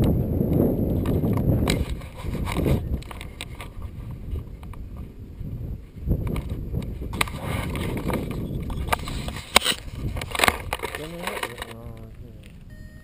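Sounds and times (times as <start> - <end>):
rustling in dry grass: 0.8 - 12.6.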